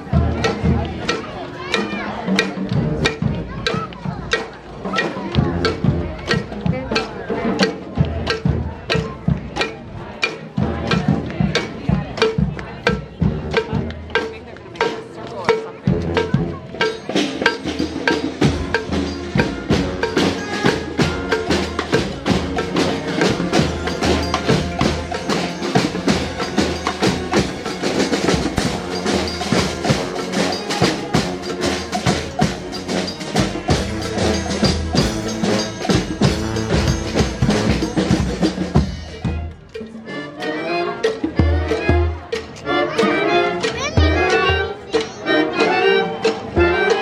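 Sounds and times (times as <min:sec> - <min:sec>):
street band horns and drums: 0:00.0 - 0:47.0.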